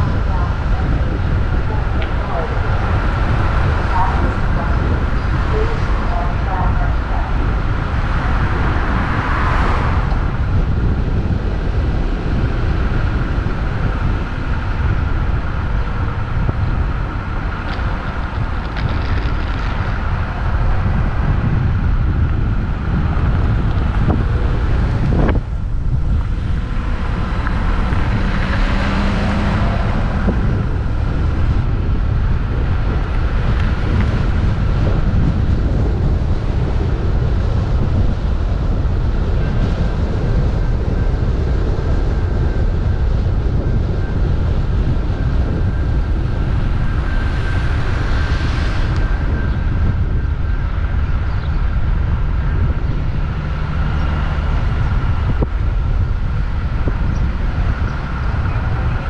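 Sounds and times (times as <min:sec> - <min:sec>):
engine and tyre noise: 0:00.0 - 0:59.0
wind buffeting microphone: 0:00.0 - 0:59.0.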